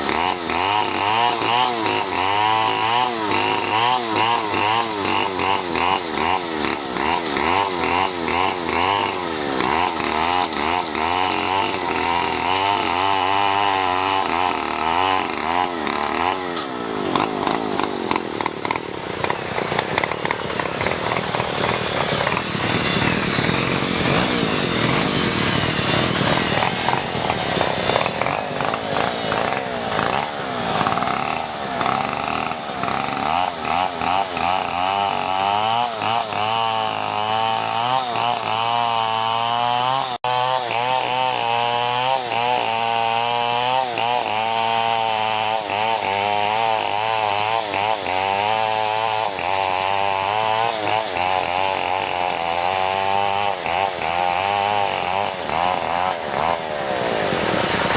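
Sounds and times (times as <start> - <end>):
power tool cutting wood: 0.0 - 57.9.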